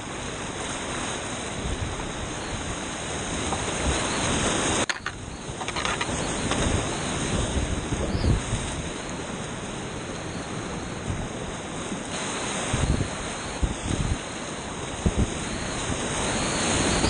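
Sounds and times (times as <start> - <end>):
wind noise: 0.0 - 17.0.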